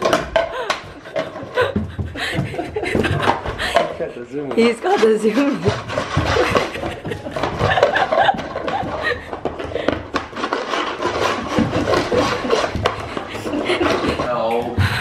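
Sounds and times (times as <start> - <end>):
plastic bowl scraping on wooden floor: 0.0 - 15.0.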